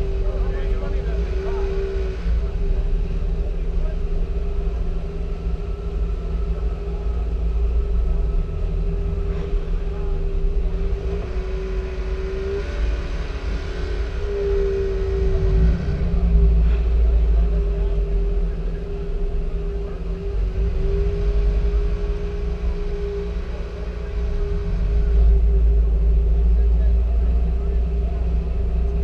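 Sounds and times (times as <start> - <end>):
car engine running at low speed: 0.0 - 29.0.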